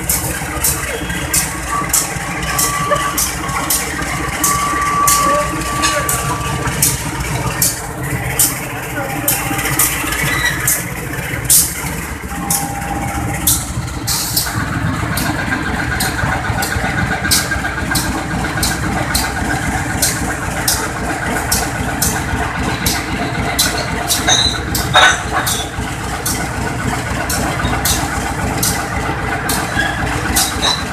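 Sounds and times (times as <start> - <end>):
diesel locomotive engine idling: 0.0 - 30.9.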